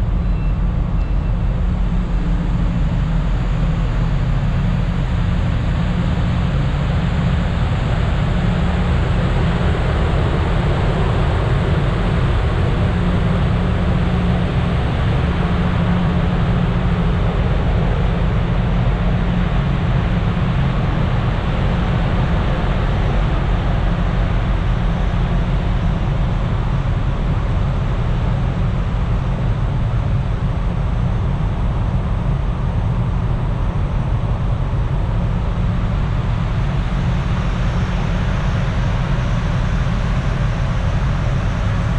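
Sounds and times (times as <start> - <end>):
ferry engine rumble: 0.0 - 41.9.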